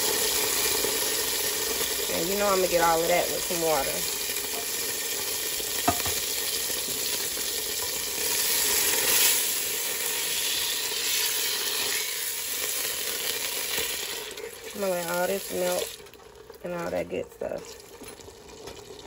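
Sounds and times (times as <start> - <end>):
butter sizzling in a pot: 0.0 - 19.0.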